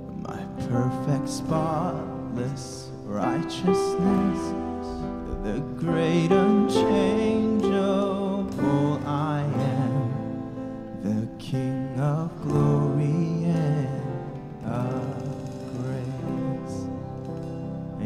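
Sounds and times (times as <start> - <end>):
acoustic guitar: 0.0 - 18.0
person singing with vibrato: 0.0 - 18.0
sustained chords: 0.0 - 18.0.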